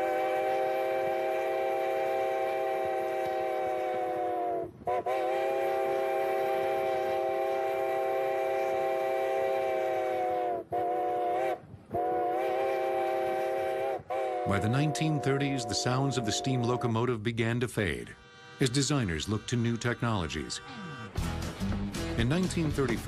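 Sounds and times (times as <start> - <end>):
steam locomotive whistle blasts: 0.0 - 17.1, 18.1 - 21.4.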